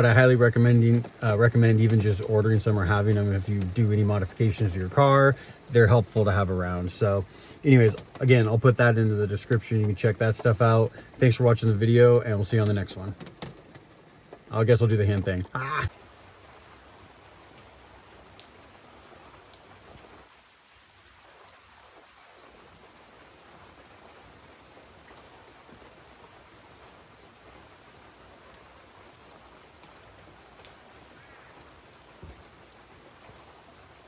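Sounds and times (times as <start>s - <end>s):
light rain falling: 0.0s - 34.0s
raindrop ticking: 0.0s - 34.0s.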